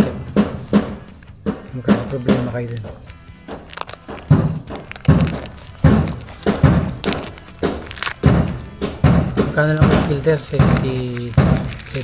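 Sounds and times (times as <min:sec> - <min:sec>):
background music with heavy beat: 0:00.0 - 0:12.0.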